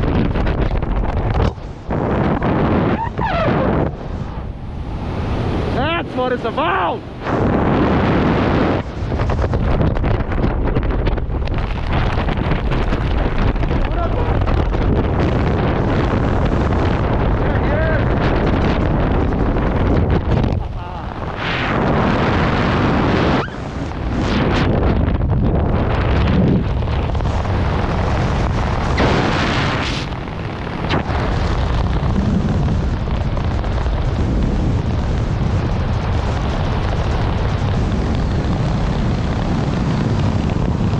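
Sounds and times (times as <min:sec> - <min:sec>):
parachute fabric flapping: 0:00.0 - 0:05.2, 0:07.2 - 0:40.9
wind rushing on microphone: 0:00.0 - 0:40.9.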